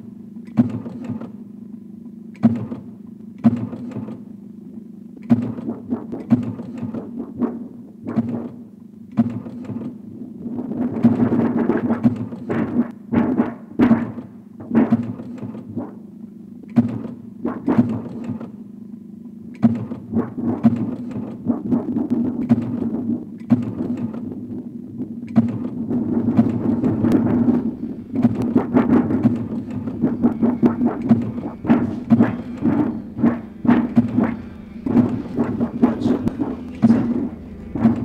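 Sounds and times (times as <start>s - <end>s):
mechanical thunks and clanks: 0.0s - 1.4s, 2.3s - 4.3s, 5.2s - 18.7s, 19.5s - 38.0s
steady low hum: 0.0s - 38.0s.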